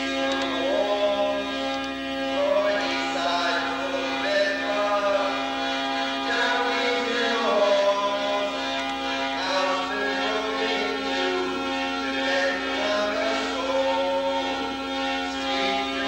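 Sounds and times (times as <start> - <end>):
low steady drone: 0.0 - 16.0
man singing chant-like melody: 0.4 - 16.0.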